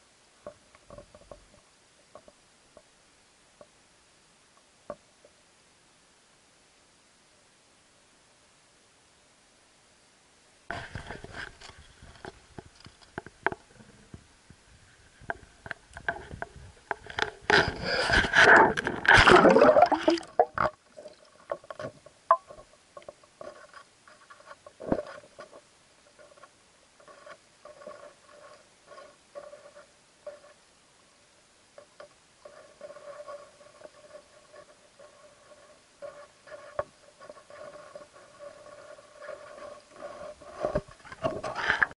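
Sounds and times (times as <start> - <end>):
faint wavering underwater hum: 0.0 - 41.8.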